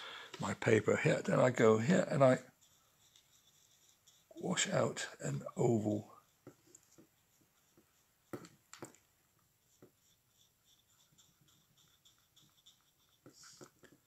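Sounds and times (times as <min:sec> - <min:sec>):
paintbrush scrubbing paper: 0:00.6 - 0:14.0.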